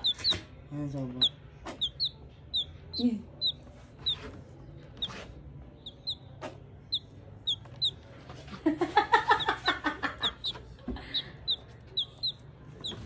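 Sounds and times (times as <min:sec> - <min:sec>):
baby chick peeping: 0:00.0 - 0:13.0.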